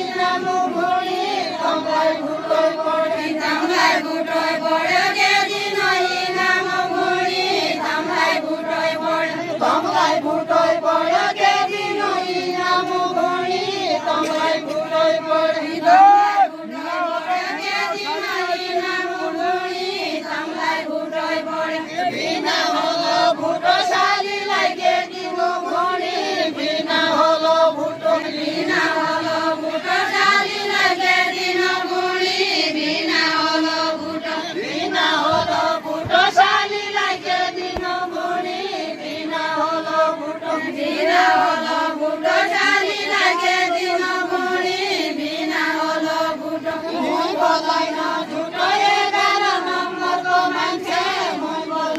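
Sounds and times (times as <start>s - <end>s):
group singing folk song in unison: 0.0s - 51.9s.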